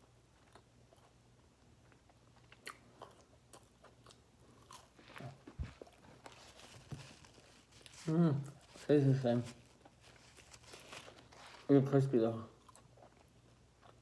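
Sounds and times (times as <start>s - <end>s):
person chewing crispy food: 0.0s - 11.7s, 12.5s - 14.0s.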